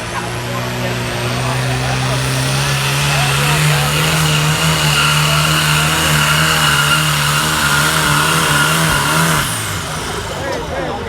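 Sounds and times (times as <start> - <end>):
engine at high revs: 0.0 - 11.0.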